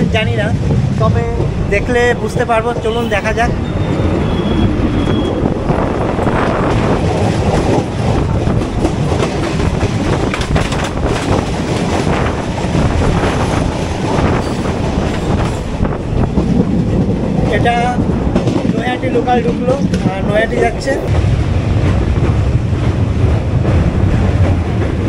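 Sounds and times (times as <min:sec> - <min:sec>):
train passing close by: 0:00.0 - 0:25.0
train wheels clattering over joints: 0:00.4 - 0:21.0.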